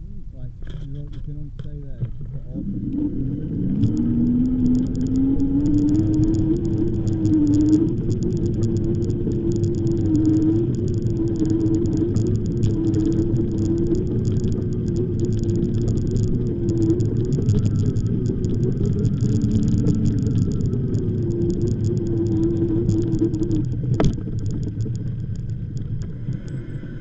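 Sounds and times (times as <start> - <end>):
steady e-bike motor hum: 0.0 - 27.0
wind rumble on microphone: 0.0 - 27.0.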